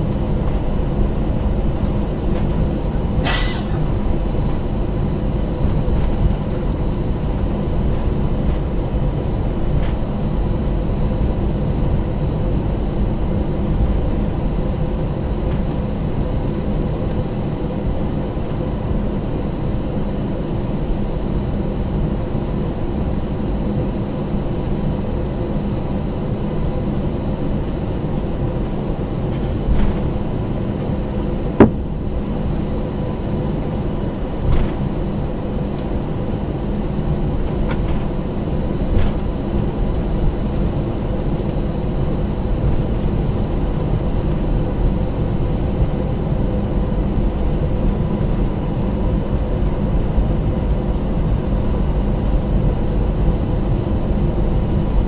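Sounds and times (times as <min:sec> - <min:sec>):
jet engines humming and whining: 0:00.0 - 0:55.0.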